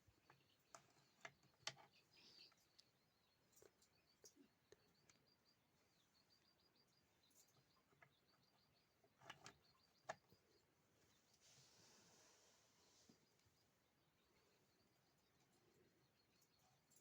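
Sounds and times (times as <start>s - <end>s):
faint high-pitched rapid chirping: 0.0s - 17.0s.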